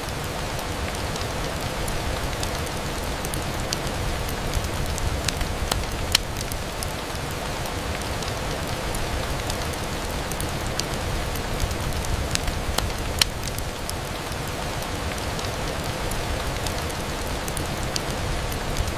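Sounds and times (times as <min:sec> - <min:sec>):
rain on a window: 0:00.0 - 0:18.9.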